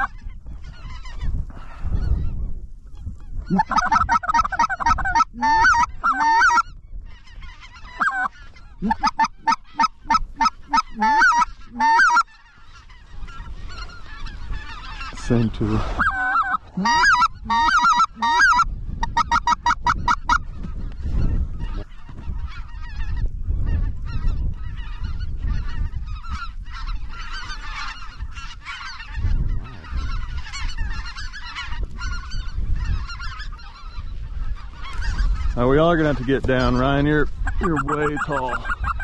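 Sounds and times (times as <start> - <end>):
geese calling: 0.0 - 39.0
wind rumble on microphone: 0.0 - 39.0.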